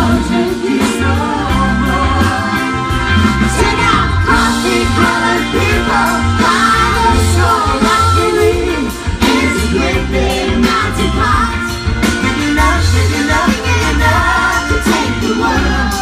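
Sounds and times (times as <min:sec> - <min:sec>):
lead singer: 0:00.0 - 0:16.0
live band playing: 0:00.0 - 0:16.0.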